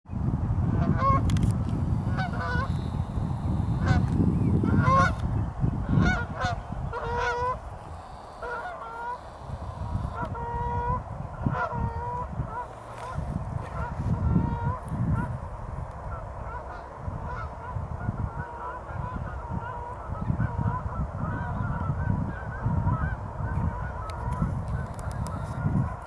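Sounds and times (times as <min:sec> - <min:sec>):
geese honking: 0:00.8 - 0:01.2, 0:02.0 - 0:15.4, 0:16.0 - 0:26.0.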